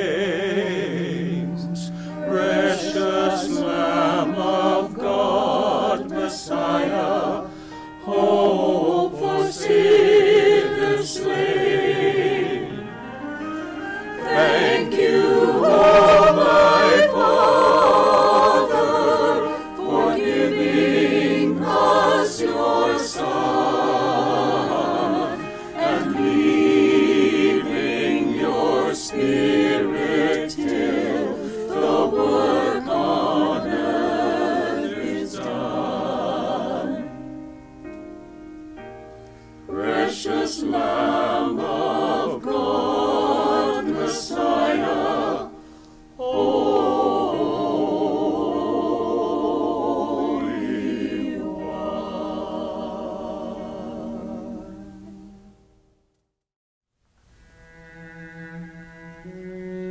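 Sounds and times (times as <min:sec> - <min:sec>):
mixed choir singing a cappella: 0:00.0 - 0:37.4, 0:39.6 - 0:55.6.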